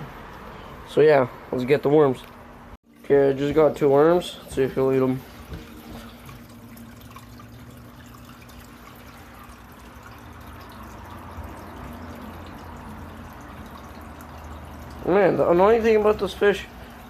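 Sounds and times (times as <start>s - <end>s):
water trickling: 1.6s - 17.0s
low hum of filter: 2.2s - 17.0s.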